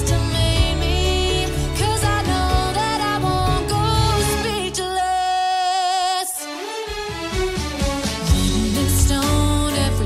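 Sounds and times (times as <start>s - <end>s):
instrumental music: 0.0s - 10.0s.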